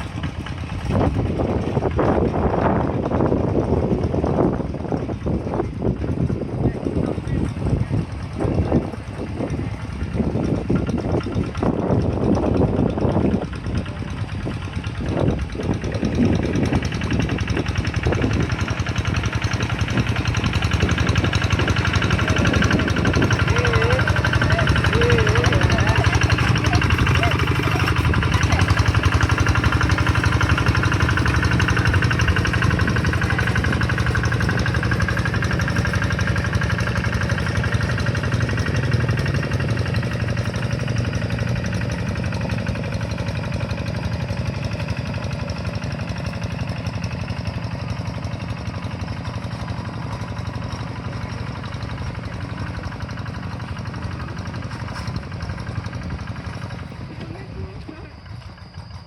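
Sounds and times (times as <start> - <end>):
hand tractor diesel engine running: 0.0 - 59.0.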